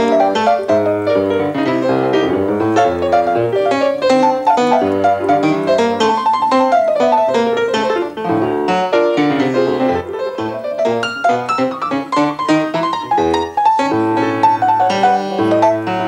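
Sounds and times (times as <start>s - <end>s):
solo jazz piano: 0.0s - 16.0s.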